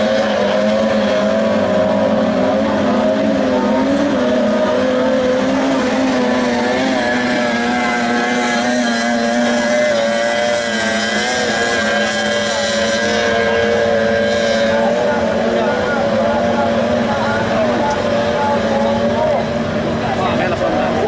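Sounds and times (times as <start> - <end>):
racing boat outboard engines: 0.0 - 21.0.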